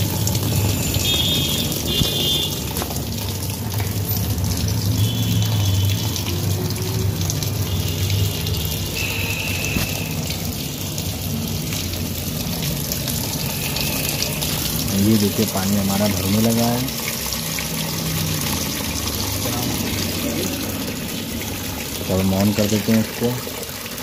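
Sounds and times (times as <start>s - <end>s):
water pouring into plastic tub: 0.0s - 24.0s.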